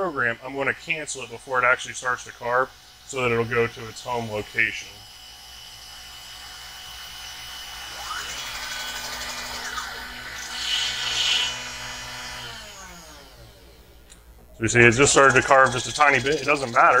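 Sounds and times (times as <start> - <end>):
router bit grinding into wood: 0.0 - 13.6, 14.9 - 17.0
router motor hum: 0.0 - 17.0
stepper motor whine: 0.0 - 17.0.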